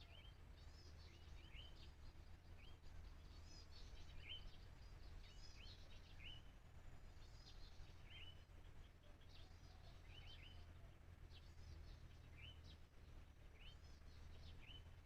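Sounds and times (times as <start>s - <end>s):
low steady rumble: 0.0s - 15.0s
small birds chirping: 0.0s - 15.0s.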